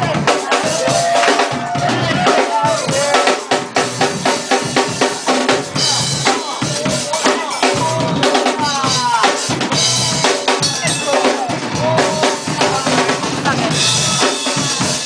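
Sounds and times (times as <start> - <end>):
breakbeat music with drums: 0.0 - 15.0.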